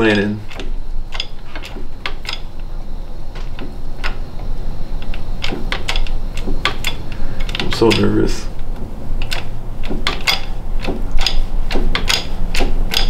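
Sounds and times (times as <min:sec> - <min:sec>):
sharp metallic clicks: 0:00.0 - 0:02.7, 0:03.3 - 0:13.0
steady low hum: 0:00.0 - 0:13.0.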